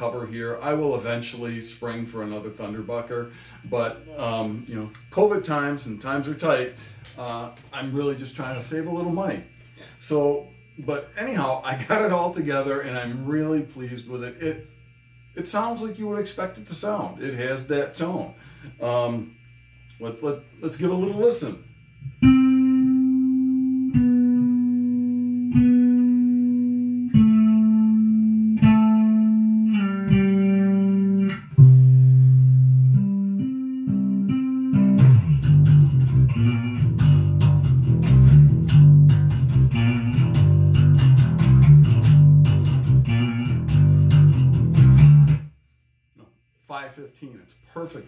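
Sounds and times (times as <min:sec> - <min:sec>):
gritty electric bass notes: 0:00.0 - 0:45.6.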